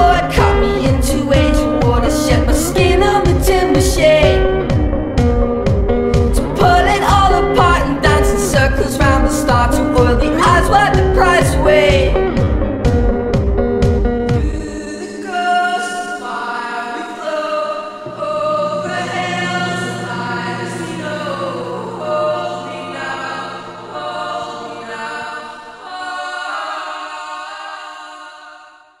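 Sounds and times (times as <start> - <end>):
song with sustained vocals: 0.0 - 29.0.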